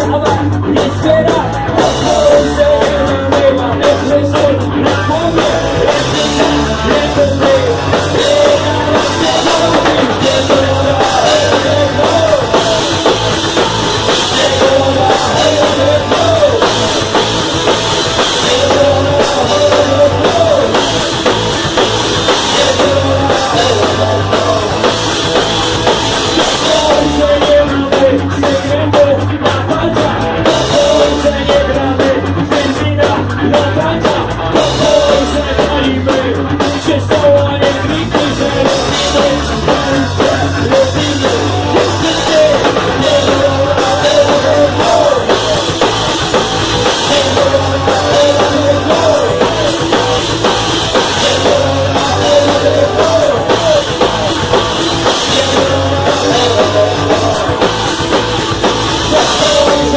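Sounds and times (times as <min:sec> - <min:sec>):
drum kit fast beat: 0:00.0 - 0:59.9
electric guitar: 0:00.0 - 0:59.9
person singing into a microphone: 0:00.0 - 0:59.9.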